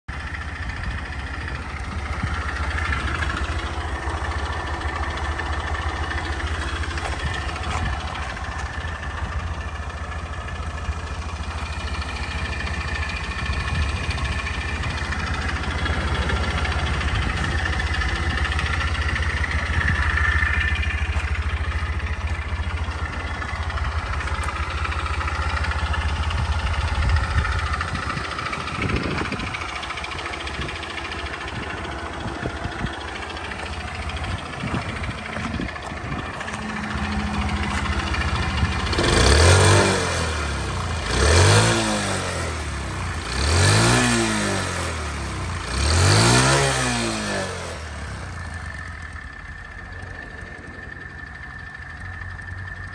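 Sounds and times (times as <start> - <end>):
small engine idling: 0.0 - 52.9.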